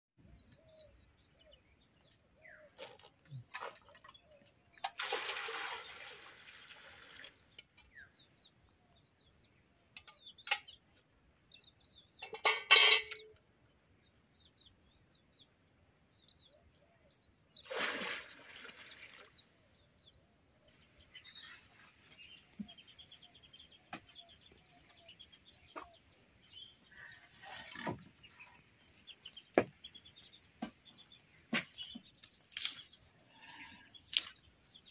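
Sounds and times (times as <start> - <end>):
small birds chirping: 0.2 - 5.0, 5.7 - 34.9.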